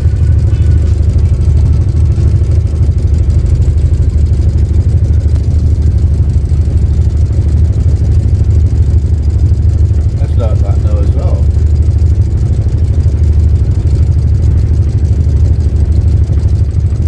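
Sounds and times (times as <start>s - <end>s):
boat engine low rumble: 0.0s - 17.0s.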